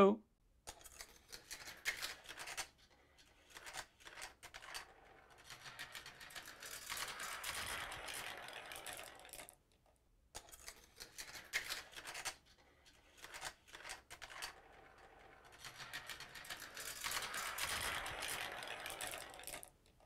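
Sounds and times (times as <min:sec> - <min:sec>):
marbles clacking against pieces: 0:00.7 - 0:09.6, 0:10.4 - 0:20.0
marbles rolling on track: 0:00.7 - 0:09.7, 0:10.4 - 0:20.0.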